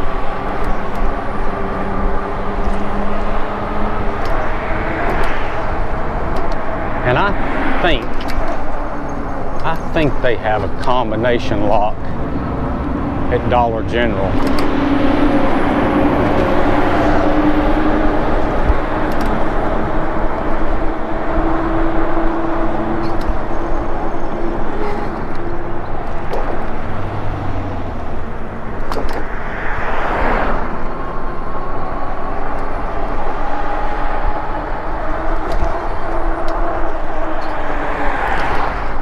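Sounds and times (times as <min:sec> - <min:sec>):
vehicle passing: 0:00.0 - 0:39.0
wind and road noise: 0:00.0 - 0:39.0.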